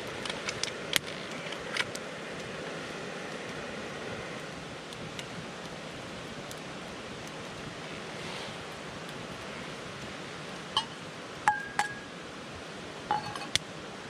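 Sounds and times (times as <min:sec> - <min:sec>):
campfire burning: 0:00.0 - 0:14.0.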